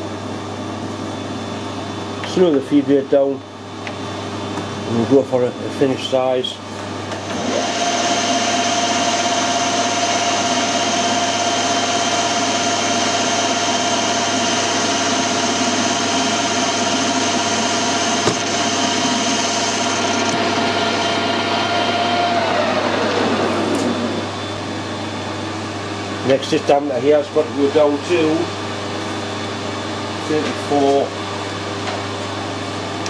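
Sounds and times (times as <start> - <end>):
metal lathe gear whine: 4.8 - 31.8.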